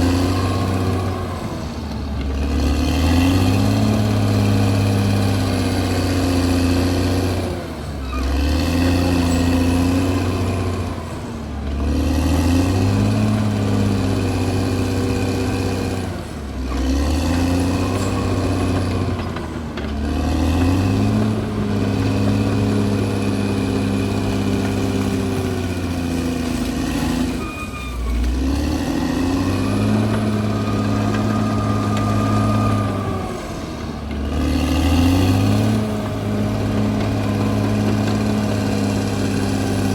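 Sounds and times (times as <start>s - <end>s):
bulldozer diesel engine running hard: 0.0s - 39.9s.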